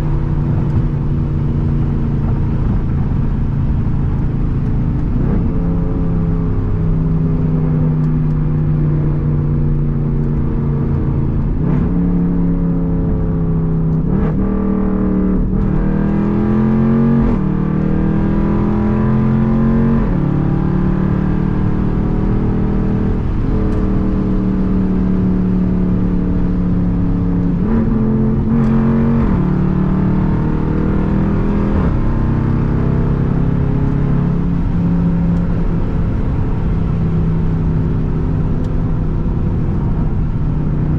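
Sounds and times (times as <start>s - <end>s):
car exhaust accelerating and upshifting: 0.0s - 40.9s.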